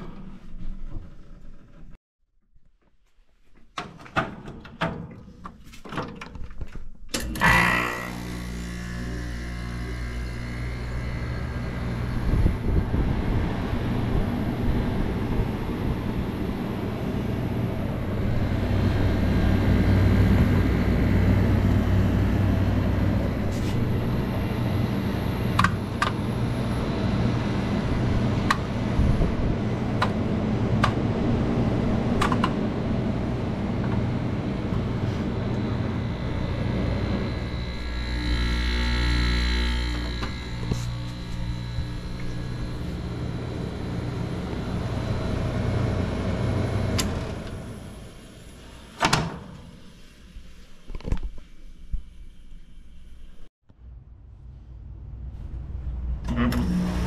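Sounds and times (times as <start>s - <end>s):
air conditioner humming: 7.2s - 53.5s.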